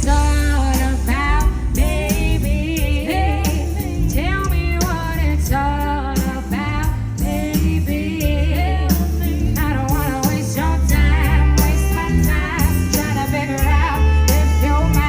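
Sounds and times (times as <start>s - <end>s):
amplified backing track with bass: 0.0s - 15.0s
woman singing: 0.0s - 15.0s.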